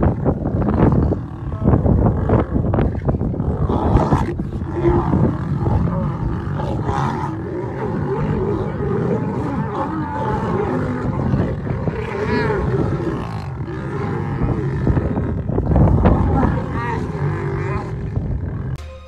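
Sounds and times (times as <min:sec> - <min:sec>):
lions growling and snarling: 0:00.0 - 0:18.8.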